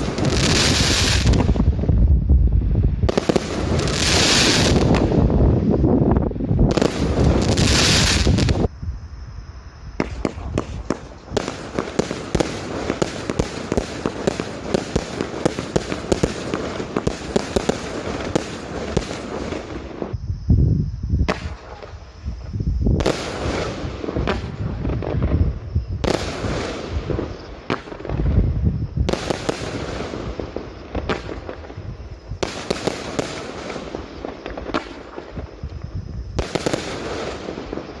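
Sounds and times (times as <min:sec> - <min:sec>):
fireworks crackling: 0:00.0 - 0:08.7, 0:09.9 - 0:20.2, 0:21.2 - 0:38.0
deep firework booms: 0:00.0 - 0:38.0.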